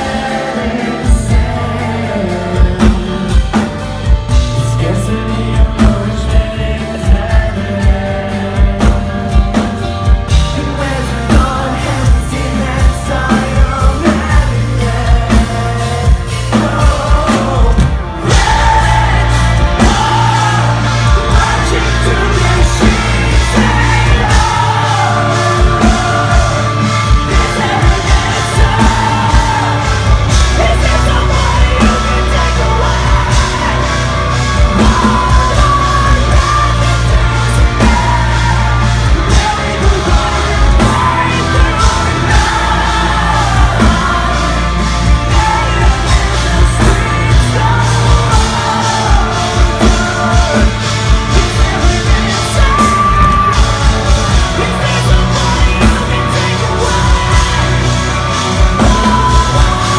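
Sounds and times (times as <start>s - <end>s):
bass guitar: 0.0s - 59.9s
distorted guitars: 0.0s - 59.9s
heavy drums: 0.0s - 59.9s
person singing and yelling: 0.0s - 59.9s.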